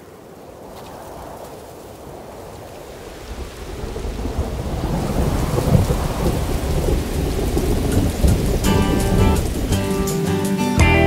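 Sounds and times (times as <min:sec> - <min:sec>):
low thunder rumbles: 0:00.0 - 0:10.3
rain: 0:00.0 - 0:11.0.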